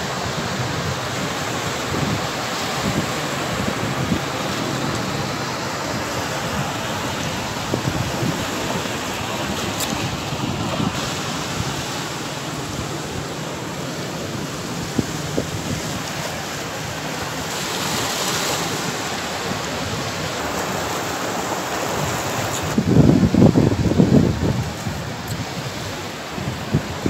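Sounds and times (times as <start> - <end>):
wind buffeting the microphone: 0.0 - 13.6, 14.2 - 27.0
sea waves washing: 0.0 - 27.0.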